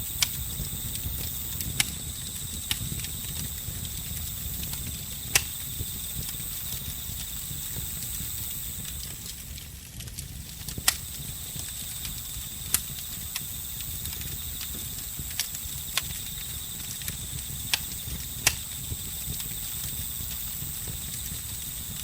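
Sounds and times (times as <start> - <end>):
insects trilling: 0.0 - 9.6, 10.6 - 22.0
campfire crackling: 0.0 - 22.0
fire popping: 0.0 - 22.0.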